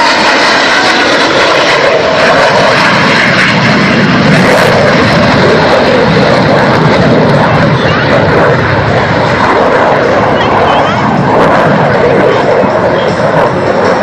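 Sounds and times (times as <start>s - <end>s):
jet engine roaring on low pass: 0.0s - 14.0s.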